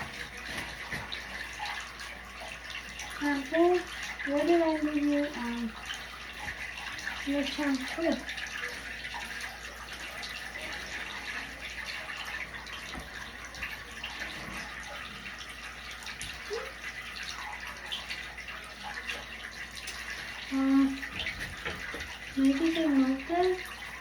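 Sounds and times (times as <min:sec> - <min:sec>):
tap water running into bathtub: 0:00.0 - 0:24.0.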